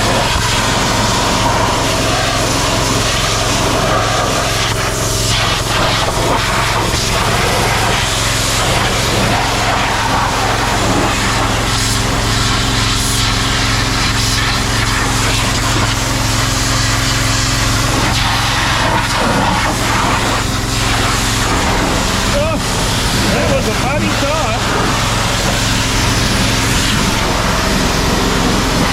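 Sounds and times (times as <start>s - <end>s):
pressure washer engine: 0.0s - 28.9s
water jet hissing: 0.0s - 28.9s.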